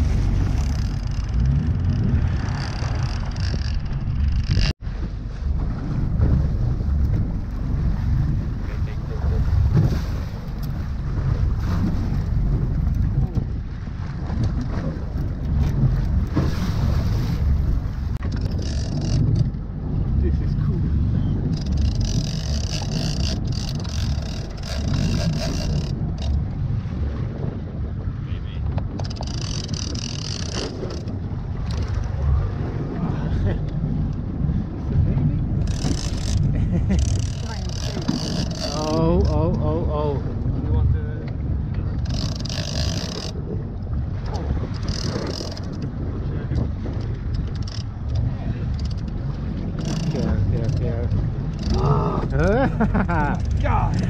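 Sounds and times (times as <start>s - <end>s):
boat engine running: 0.0s - 54.0s
wind buffeting microphone: 0.0s - 54.0s.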